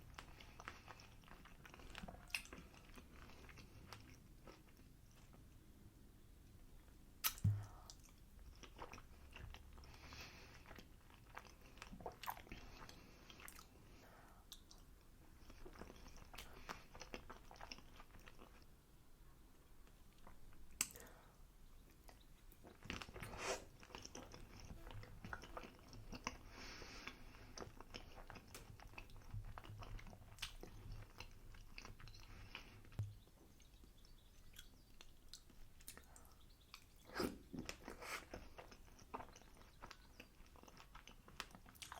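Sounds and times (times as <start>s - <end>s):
chewing and mouth smacks: 0.0s - 5.4s, 7.2s - 13.8s, 14.4s - 18.7s, 19.9s - 41.9s.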